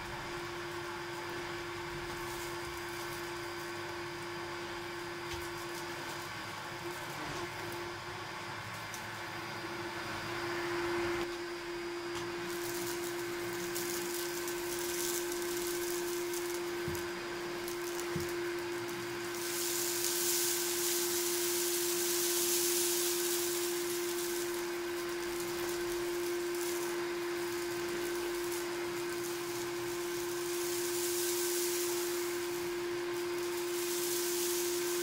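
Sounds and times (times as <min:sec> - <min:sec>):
vacuum cleaner motor whine: 0:00.0 - 0:35.0.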